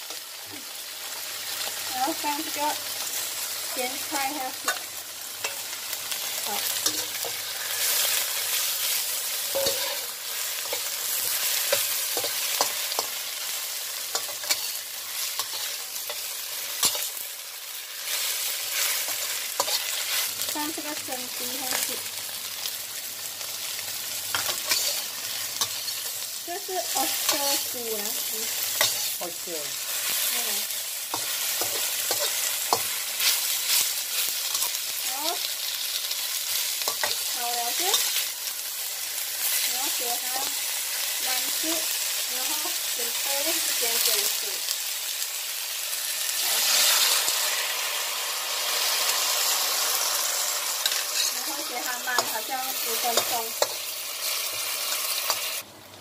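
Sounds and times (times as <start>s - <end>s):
food sizzling in wok: 0.0s - 56.0s
spatula scraping wok: 1.4s - 22.0s, 23.7s - 44.4s, 46.0s - 55.6s.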